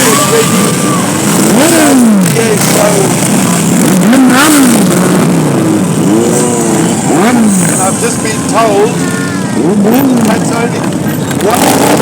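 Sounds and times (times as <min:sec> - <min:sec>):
motorcycles revving past: 0:00.0 - 0:12.0.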